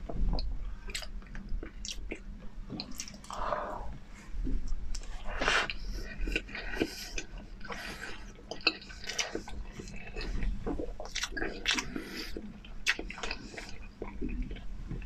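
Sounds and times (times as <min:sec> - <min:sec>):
wet chewing mouth sounds: 0:00.4 - 0:03.6, 0:04.6 - 0:15.0.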